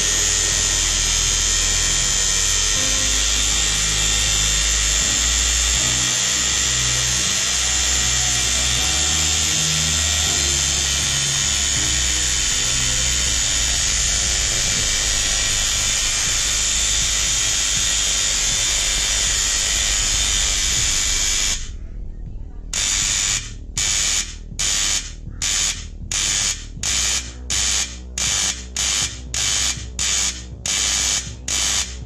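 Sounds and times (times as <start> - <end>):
hair clipper buzzing: 0.0 - 21.7, 22.8 - 32.0.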